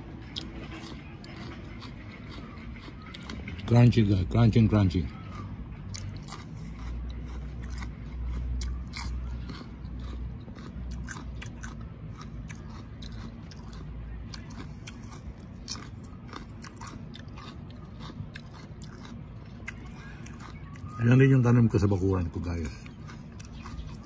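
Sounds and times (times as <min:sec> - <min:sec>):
person chewing crunchy vegetables: 0:00.0 - 0:24.0.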